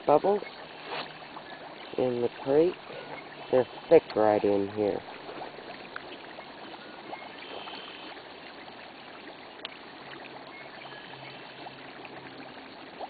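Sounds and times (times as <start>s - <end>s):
creek water trickling over stones: 0.0s - 13.0s
gas bubbles ticking and popping: 0.0s - 13.0s.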